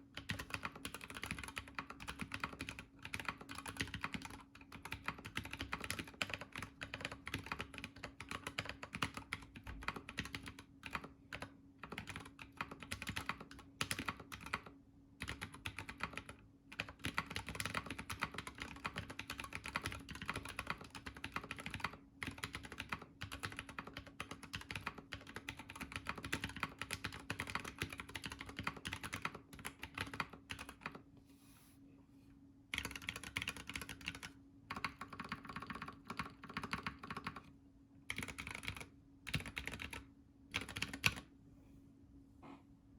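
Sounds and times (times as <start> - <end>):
mechanical keyboard typing: 0.2 - 31.0, 32.7 - 37.5, 38.1 - 41.3.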